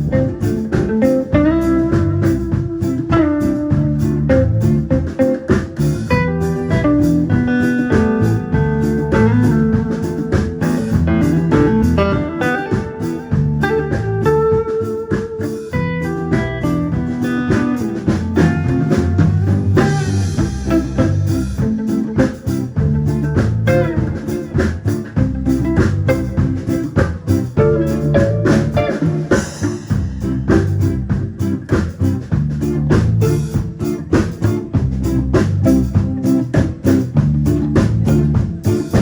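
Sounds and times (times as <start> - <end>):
bass guitar: 0.0 - 39.0
blues guitar: 0.0 - 39.0
drum kit steady beat: 0.0 - 39.0.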